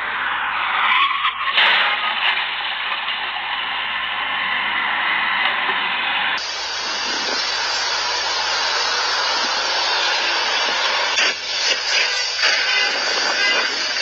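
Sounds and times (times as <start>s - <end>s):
road and wind noise: 0.0s - 14.0s.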